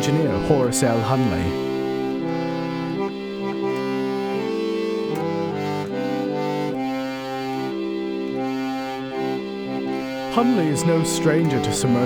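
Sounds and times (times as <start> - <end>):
electric organ chords: 0.0 - 12.0.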